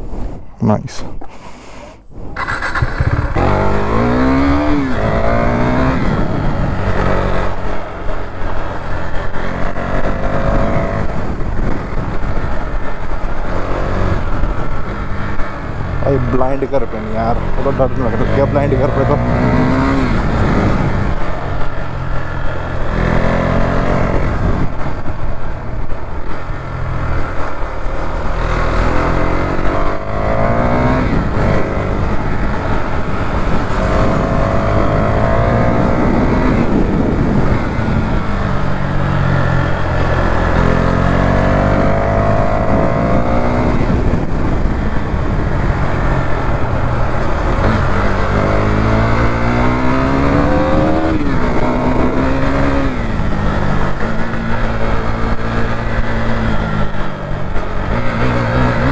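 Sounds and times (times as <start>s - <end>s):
motorcycle engine accelerating: 2.1s - 58.9s.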